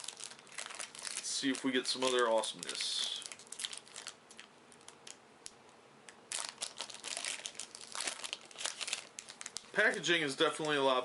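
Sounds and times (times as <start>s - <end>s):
wrapper crinkling: 0.0s - 5.2s, 6.3s - 11.0s
wrapper light clicks: 0.0s - 10.8s.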